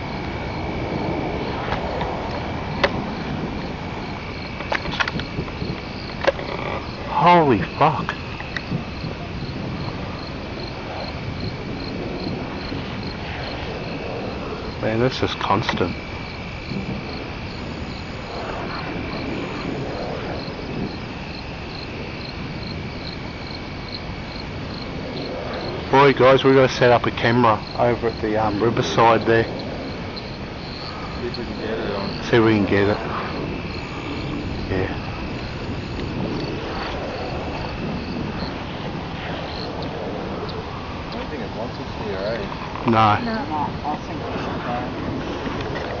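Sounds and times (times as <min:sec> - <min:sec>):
crickets chirping: 0:00.0 - 0:46.0
dense steady background noise: 0:00.0 - 0:46.0
low background hiss: 0:00.0 - 0:46.0.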